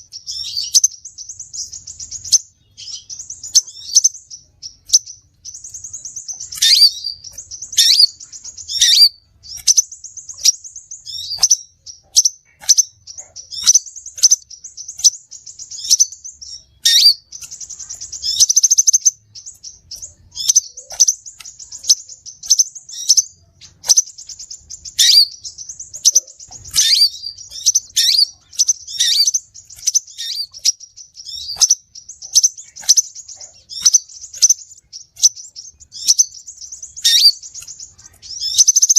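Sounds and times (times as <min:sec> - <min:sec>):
sunbird trills and chirps: 0:00.0 - 0:38.9.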